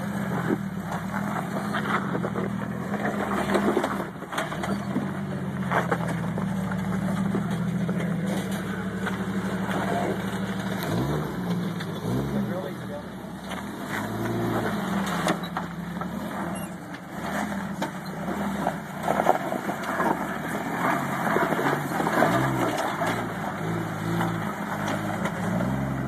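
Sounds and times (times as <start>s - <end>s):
engine running at low revs: 0.0s - 26.0s.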